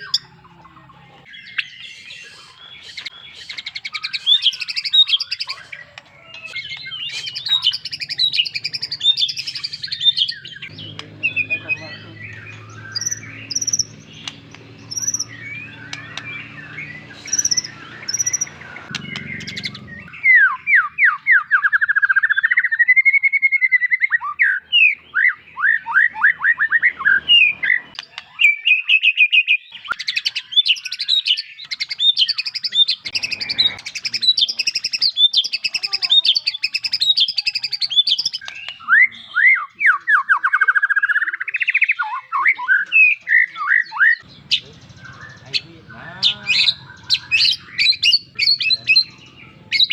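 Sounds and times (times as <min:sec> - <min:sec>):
bird singing: 0:00.0 - 0:49.9.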